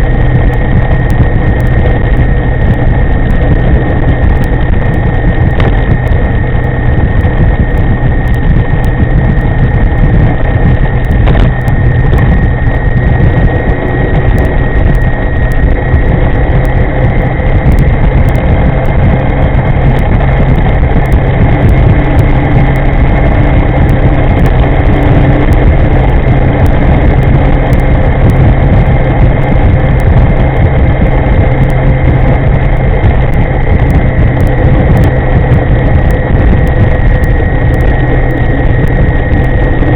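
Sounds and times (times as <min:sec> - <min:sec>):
high whine of electric drive: 0:00.0 - 0:39.9
wind buffeting microphone: 0:00.0 - 0:39.9.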